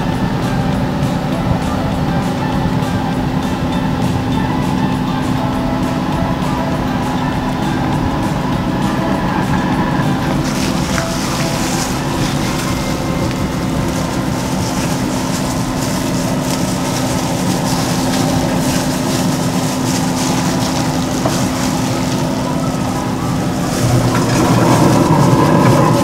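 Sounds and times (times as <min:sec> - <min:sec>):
grill fan humming: 0:00.0 - 0:26.0.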